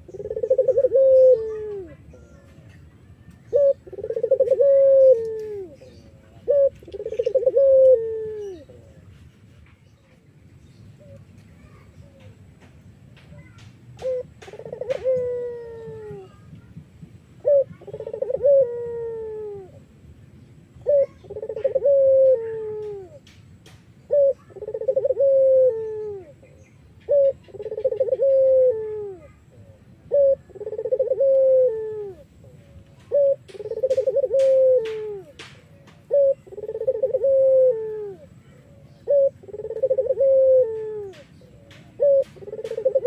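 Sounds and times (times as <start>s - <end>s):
dove cooing: 0.0s - 9.2s, 13.4s - 16.5s, 17.4s - 19.9s, 20.8s - 23.3s, 24.0s - 43.0s.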